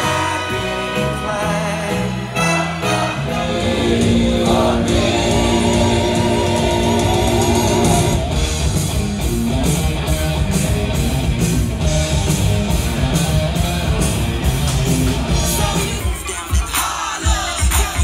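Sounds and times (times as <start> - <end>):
song with a steady beat: 0.0 - 9.0, 11.7 - 18.0.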